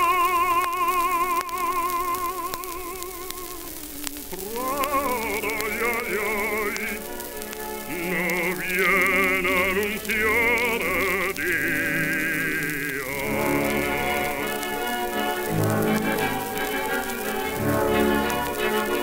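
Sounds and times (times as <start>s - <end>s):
faint record surface clicks: 0.0s - 19.0s
man singing with vibrato: 0.0s - 19.0s
record hiss: 0.0s - 19.0s.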